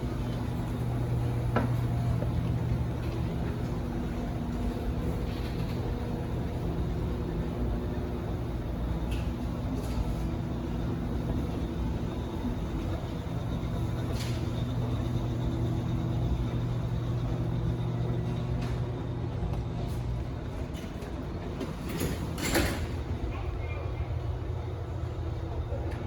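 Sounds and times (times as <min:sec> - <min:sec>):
escalator humming: 0:00.0 - 0:26.0.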